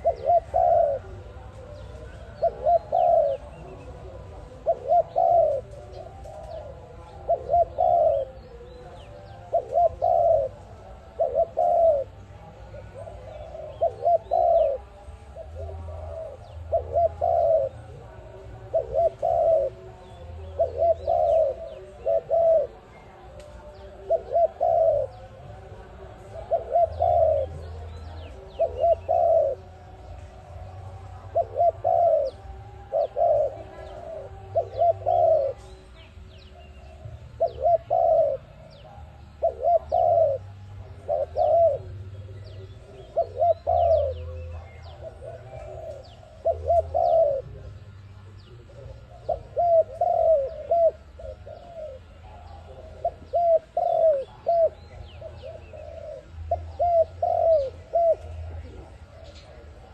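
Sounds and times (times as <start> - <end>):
dove cooing: 0.0 - 59.9
small birds chirping faintly: 0.0 - 59.9.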